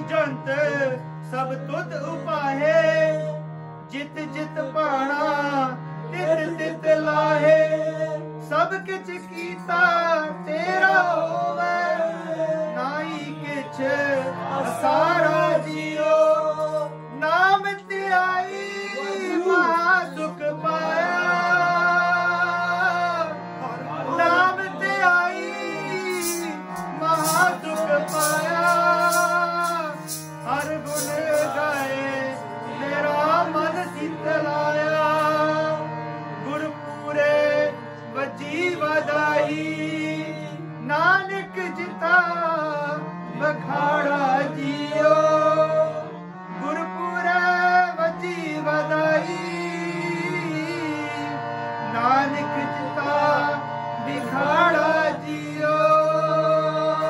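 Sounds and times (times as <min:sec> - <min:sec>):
harmonium drone: 0:00.0 - 0:57.0
man singing: 0:00.0 - 0:57.0.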